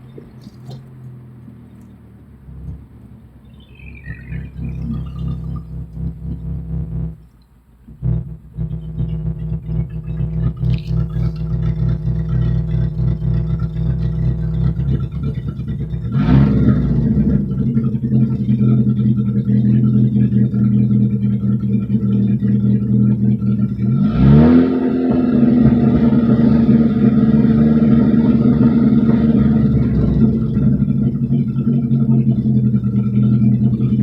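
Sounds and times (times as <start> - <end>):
engine revving without muffler: 0.0 - 34.0.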